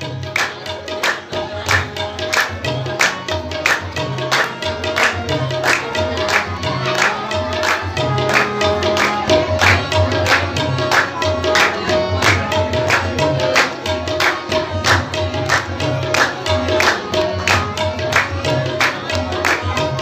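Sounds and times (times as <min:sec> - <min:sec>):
hand-clapping: 0:00.0 - 0:20.0
harmonium sustained tone: 0:00.0 - 0:20.0
tabla drums: 0:00.0 - 0:20.0.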